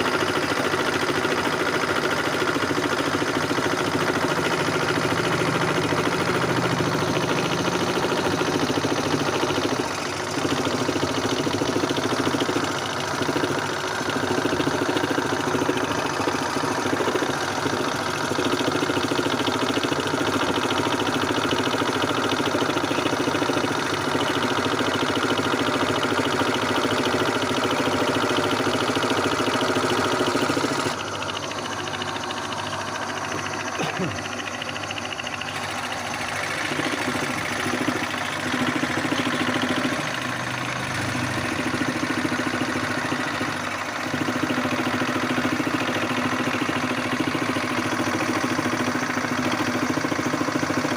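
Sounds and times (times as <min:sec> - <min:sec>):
scroll saw running: 0:00.0 - 0:50.9.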